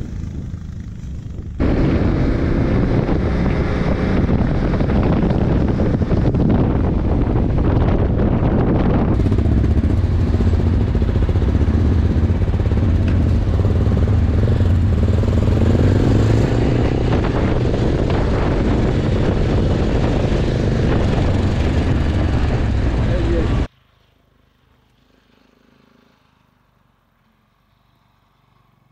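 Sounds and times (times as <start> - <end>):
motorcycle engine running: 0.0 - 23.7
wind on microphone: 0.0 - 23.7.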